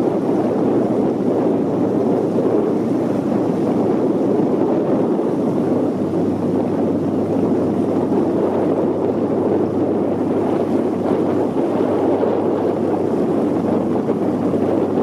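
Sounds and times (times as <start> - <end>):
wind over microphone: 0.0 - 15.0.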